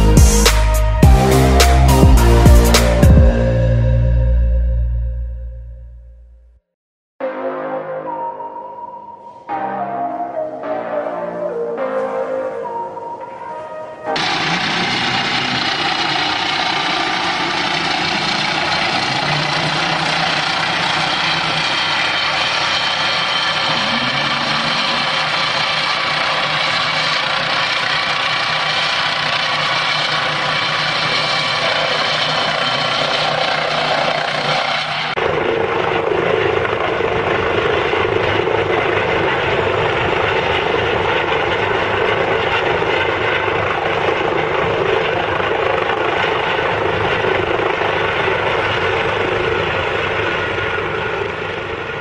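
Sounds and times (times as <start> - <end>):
helicopter hovering: 0.0 - 5.2, 9.6 - 52.0.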